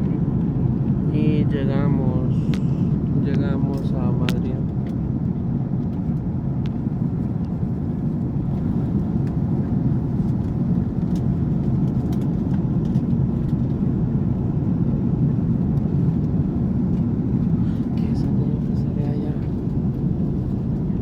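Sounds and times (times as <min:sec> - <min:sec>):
airplane cabin drone: 0:00.0 - 0:21.0.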